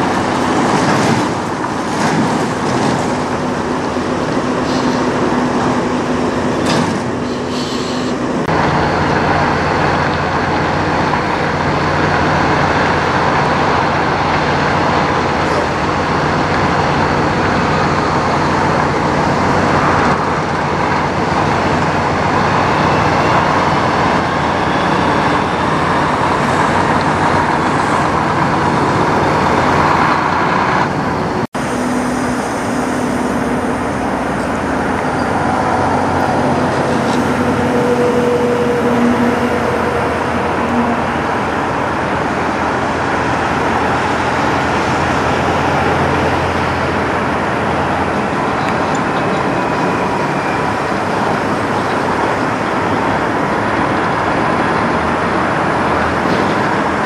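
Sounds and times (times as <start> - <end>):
diesel truck engines running: 0.0 - 57.0.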